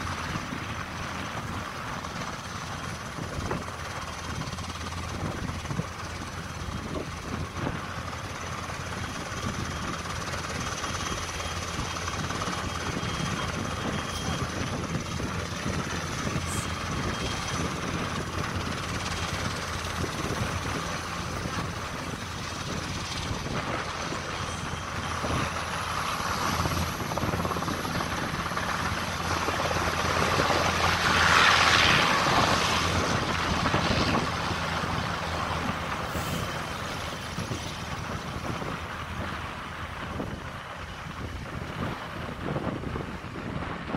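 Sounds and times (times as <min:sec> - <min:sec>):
helicopter rotor drone: 0:00.0 - 0:43.9.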